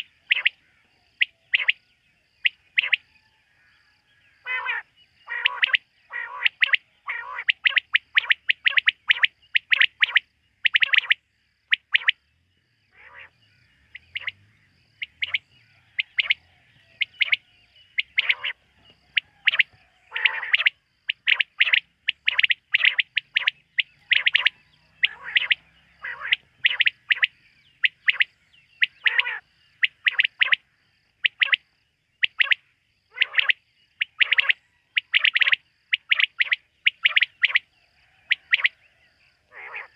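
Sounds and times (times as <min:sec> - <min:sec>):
quail calling: 0:00.0 - 0:01.8, 0:02.4 - 0:03.1, 0:04.4 - 0:12.2, 0:12.9 - 0:14.4, 0:15.0 - 0:30.6, 0:31.2 - 0:31.6, 0:32.2 - 0:39.9.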